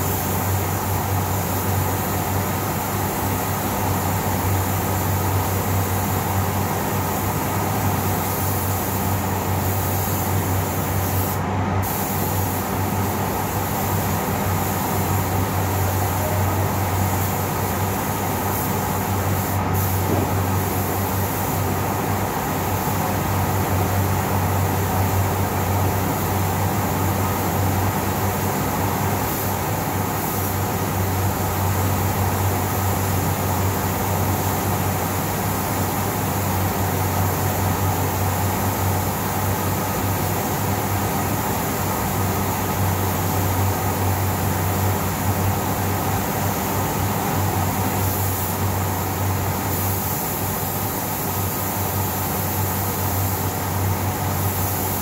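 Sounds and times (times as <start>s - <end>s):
extraction fan hum and rushing air: 0.0s - 55.0s
spray gun hissing: 0.0s - 55.0s.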